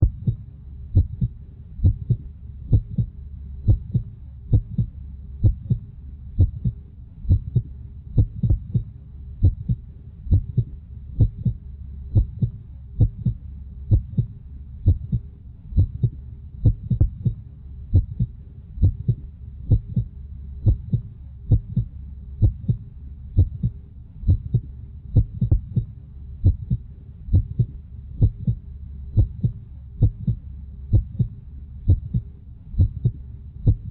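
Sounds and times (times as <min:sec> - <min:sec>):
heartbeat thumps: 0:00.0 - 0:33.9
low steady rumble: 0:00.0 - 0:33.9.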